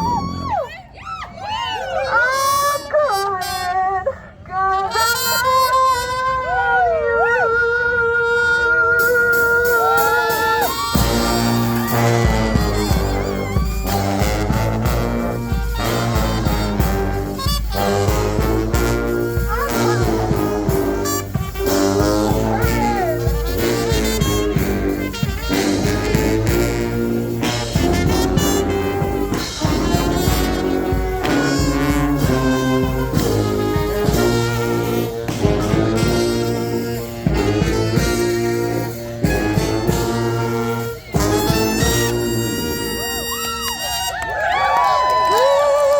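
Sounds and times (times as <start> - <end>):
brass band playing: 0.0 - 0.8, 2.0 - 7.0, 8.0 - 44.9.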